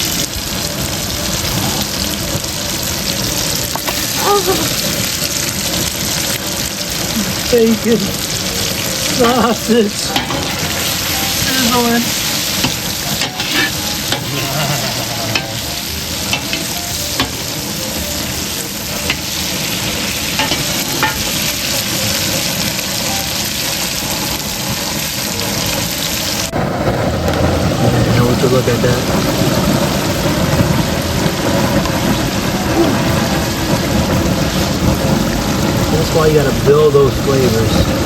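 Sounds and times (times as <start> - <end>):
meat sizzling in fat: 0.0 - 38.0.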